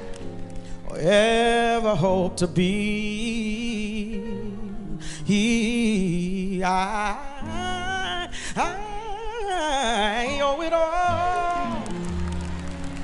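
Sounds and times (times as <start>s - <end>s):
instrumental accompaniment: 0.0s - 13.0s
man singing long notes: 0.8s - 12.0s.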